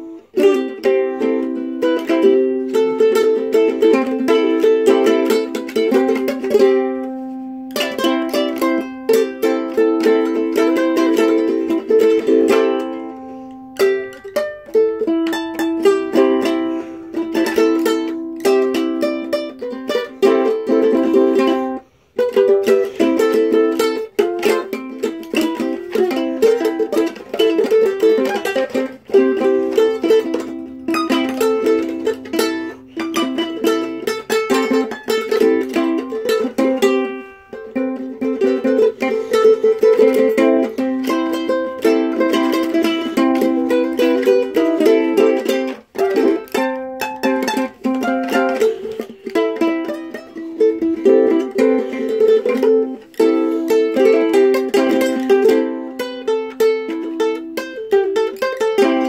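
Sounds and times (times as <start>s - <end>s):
ukulele strummed in chords: 0.0s - 59.0s.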